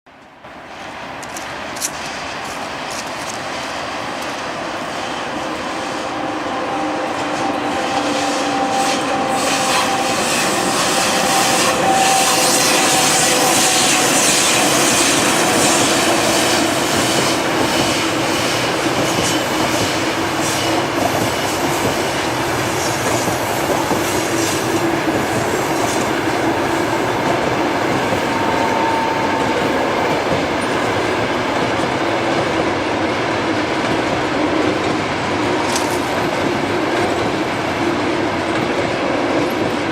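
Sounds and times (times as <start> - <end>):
train wheels rumbling on rails: 0.1 - 39.9.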